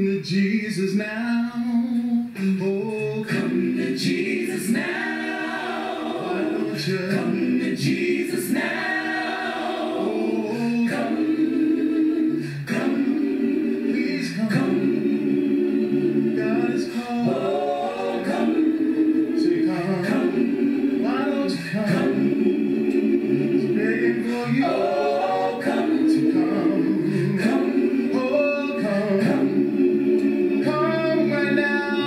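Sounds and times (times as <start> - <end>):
gospel choir singing a cappella: 1.6 - 32.0.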